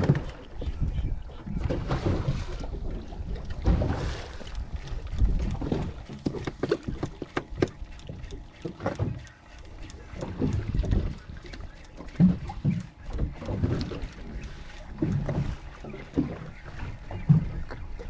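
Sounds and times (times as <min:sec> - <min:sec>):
low uneven rumbles: 0:00.0 - 0:18.0
water slapping against boat hull: 0:00.0 - 0:18.0.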